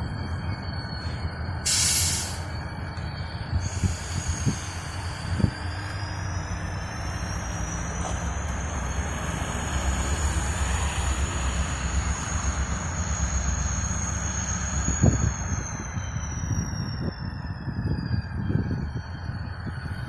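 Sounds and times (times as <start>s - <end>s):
diesel locomotive rumble: 0.0s - 20.0s
high-pitched whine: 0.0s - 20.0s.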